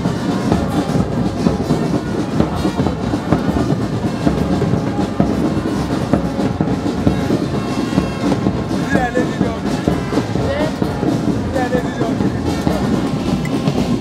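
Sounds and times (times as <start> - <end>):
bass drums beating: 0.0 - 14.0
marching brass band: 0.0 - 14.0.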